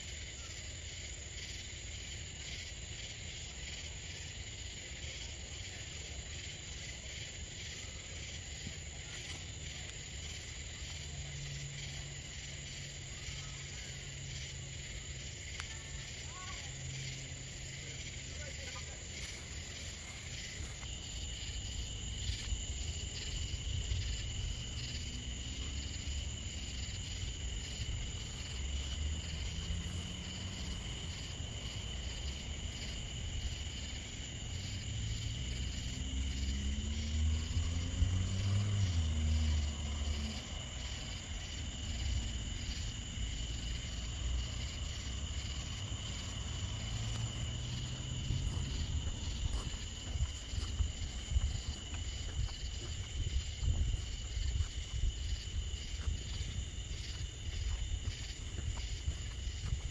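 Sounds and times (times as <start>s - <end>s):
insects chorusing: 0.0s - 59.9s.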